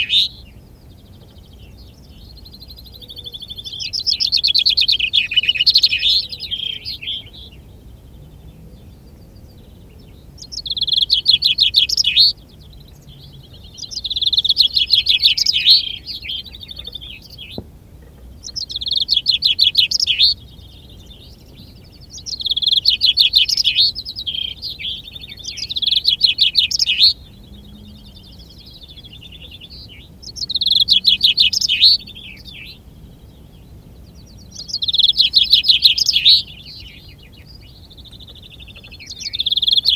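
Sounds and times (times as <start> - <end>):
chaffinch singing: 0.0 - 39.9.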